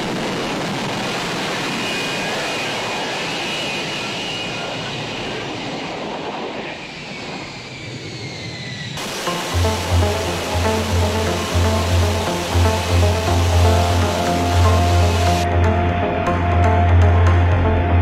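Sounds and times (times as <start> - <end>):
high jet whine: 0.0 - 16.8
fighter jet hovering: 1.5 - 16.8.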